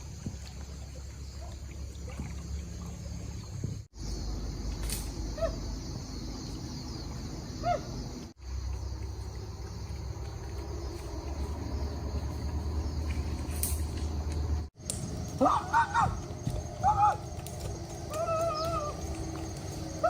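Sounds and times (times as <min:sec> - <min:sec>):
high insect hiss: 0:03.1 - 0:20.0.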